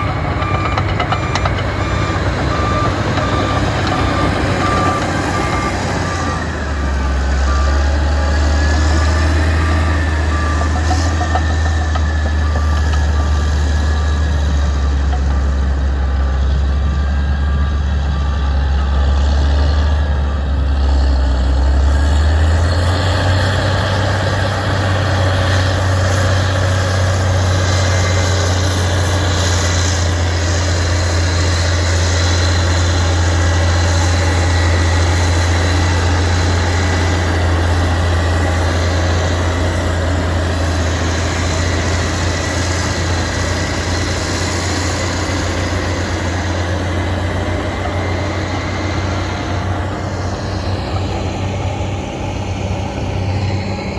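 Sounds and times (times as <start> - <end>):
reversing alarm beeping: 0.0 - 21.1, 21.7 - 53.9
heavy diesel engine running: 0.0 - 53.9.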